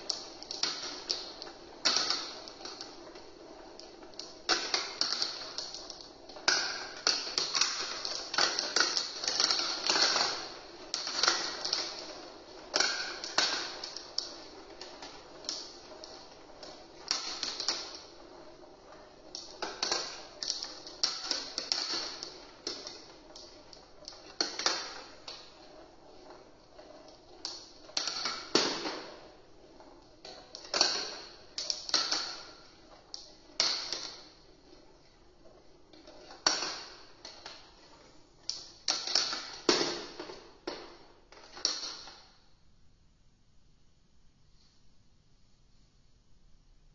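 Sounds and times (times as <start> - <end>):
marbles clattering through plastic run: 0.0 - 40.6.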